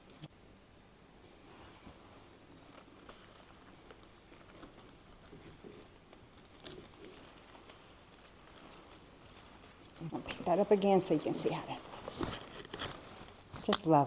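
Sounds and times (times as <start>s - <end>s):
artificial flower stems rustling: 1.1s - 14.0s.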